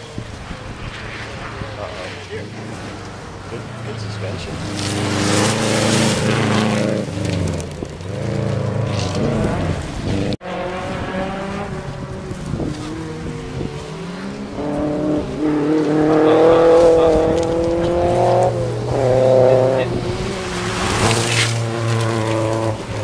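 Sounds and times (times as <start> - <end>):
rally car approaching: 0.0 - 23.0
rally car engine revving: 0.0 - 23.0.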